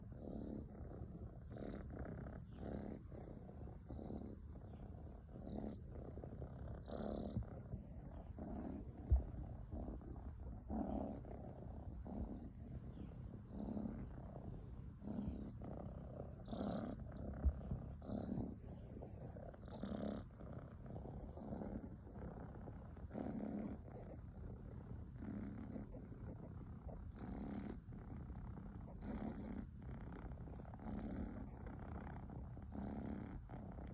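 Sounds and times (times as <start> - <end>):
cat rumbling breath: 0.0 - 33.9.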